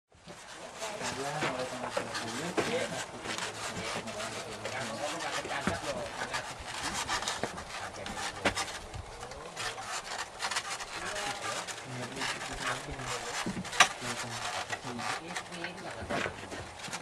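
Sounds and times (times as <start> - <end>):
baskets scraping: 0.2 - 17.0
wooden pole creaking: 0.2 - 17.0
faint voices: 0.3 - 17.0.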